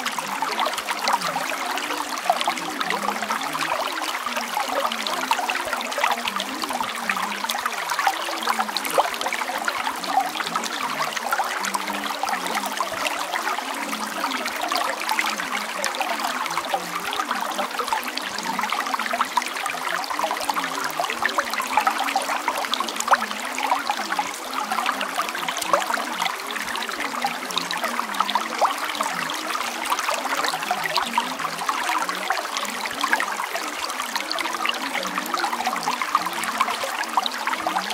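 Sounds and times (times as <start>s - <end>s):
babbling stream: 0.0s - 37.9s.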